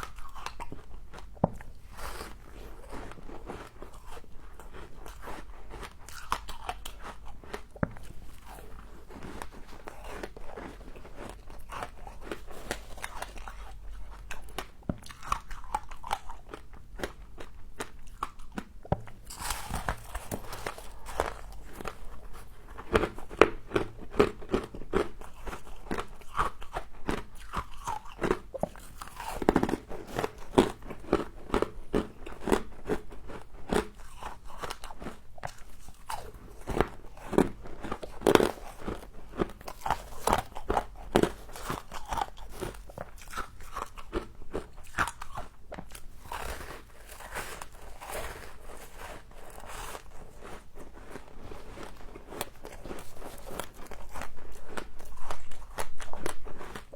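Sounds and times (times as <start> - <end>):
crunching and chewing frost: 0.0 - 56.9.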